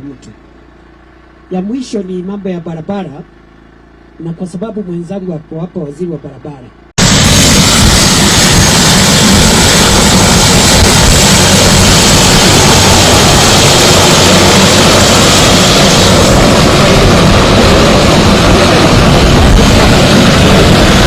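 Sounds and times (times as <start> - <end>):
helicopter rotor and turbine: 0.0 - 21.0.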